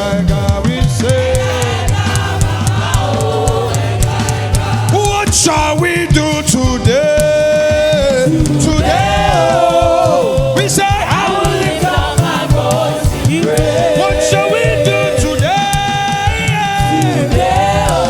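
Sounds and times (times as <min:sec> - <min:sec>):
drum and bass band beat: 0:00.0 - 0:18.0
gospel choir singing: 0:00.0 - 0:18.0.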